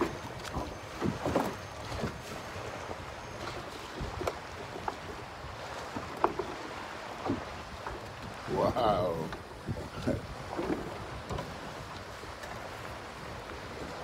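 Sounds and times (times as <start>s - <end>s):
knocks and splashes: 0.0s - 14.0s
water lapping against boat hull: 0.0s - 14.0s.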